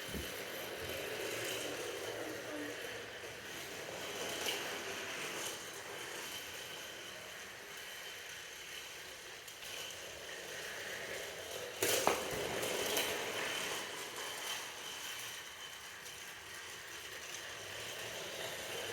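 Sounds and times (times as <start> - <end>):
toy train motor whirring: 0.0 - 18.9.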